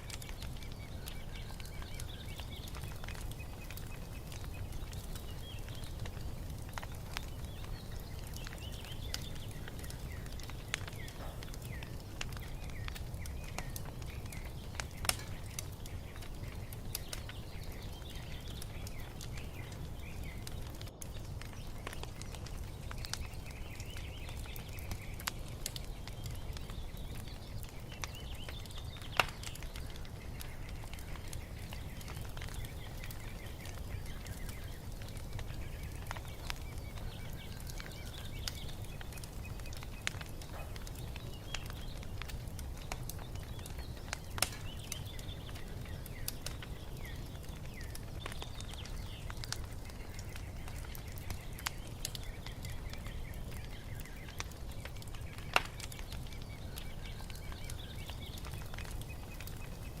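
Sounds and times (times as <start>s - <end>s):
small birds singing and chirping: 0.0s - 60.0s
wood fire crackling and popping: 0.0s - 60.0s.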